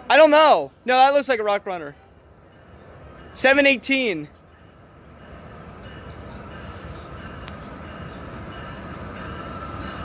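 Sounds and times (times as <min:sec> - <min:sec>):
diesel locomotive rumbling: 0:00.0 - 0:10.0.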